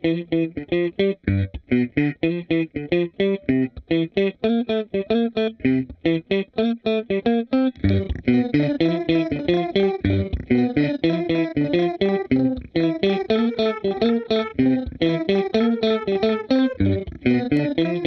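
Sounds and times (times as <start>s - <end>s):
electric guitar riff: 0.0s - 18.0s.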